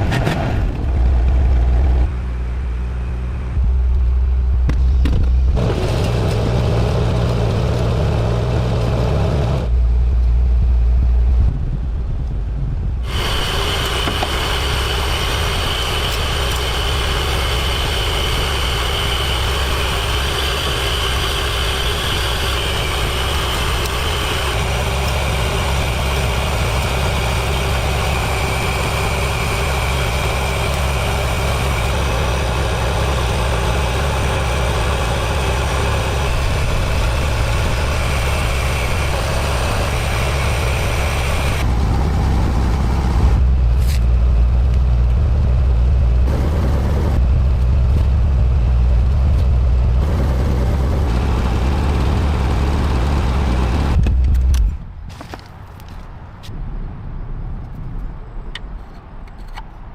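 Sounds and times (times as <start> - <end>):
strong low hum: 0.0 - 55.1
engine running: 0.0 - 56.1.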